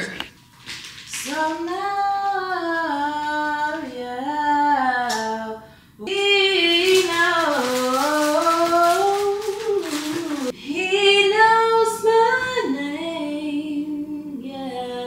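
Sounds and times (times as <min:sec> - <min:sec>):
woman singing unaccompanied: 0:01.2 - 0:15.0.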